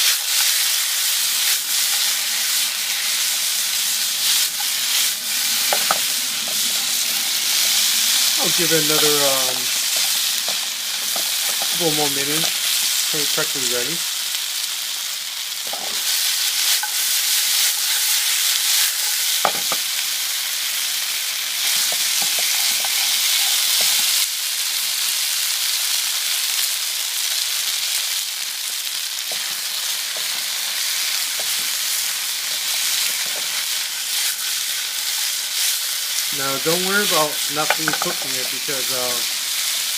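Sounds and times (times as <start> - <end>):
ribs sizzling in hot oil: 0.0 - 39.9.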